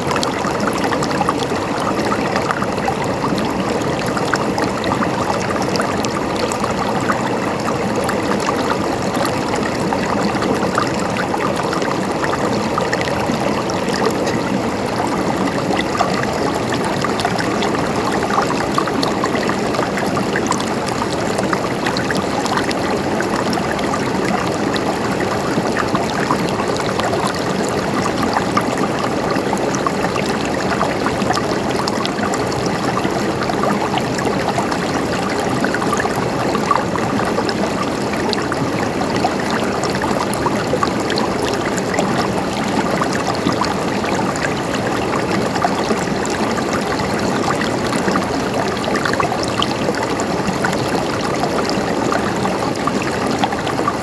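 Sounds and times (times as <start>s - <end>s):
stream water flowing and gurgling: 0.0s - 54.0s.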